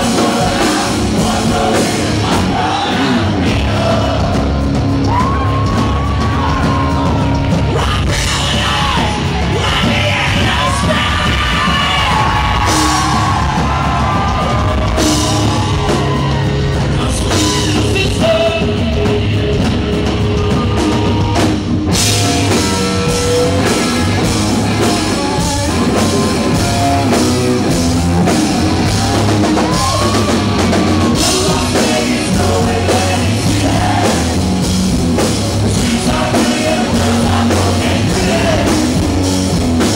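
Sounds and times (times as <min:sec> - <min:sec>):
singer's vocals: 0:00.0 - 0:27.2, 0:28.2 - 0:39.9
drum kit: 0:00.0 - 0:39.9
electric guitars: 0:00.0 - 0:39.9.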